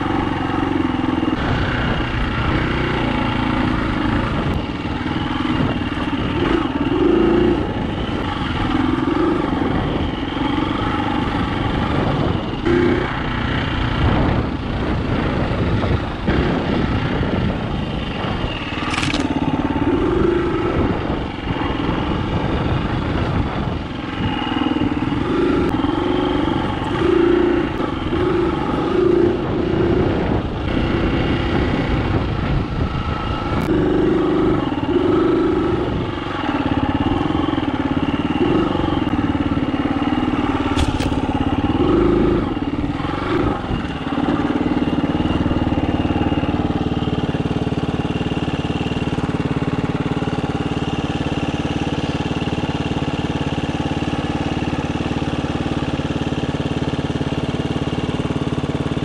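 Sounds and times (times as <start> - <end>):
dirt bike engine revving: 0.0 - 56.3
dirt bike engine idling: 0.0 - 59.0.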